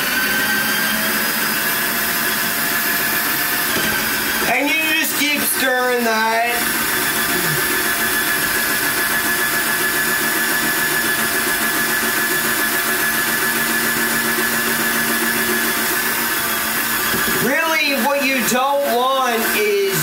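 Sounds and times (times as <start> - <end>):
cordless drill whining: 0.0 - 20.0.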